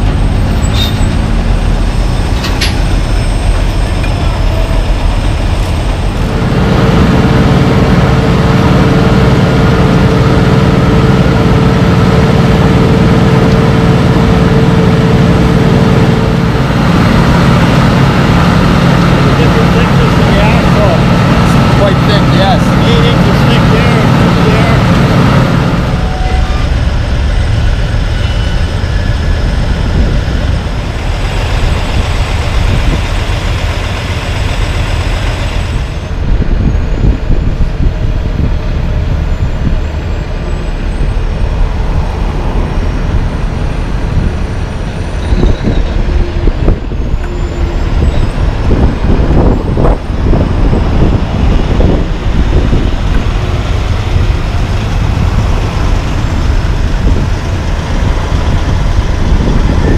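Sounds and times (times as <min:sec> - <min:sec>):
diesel truck engine rumble: 0:00.0 - 0:59.9.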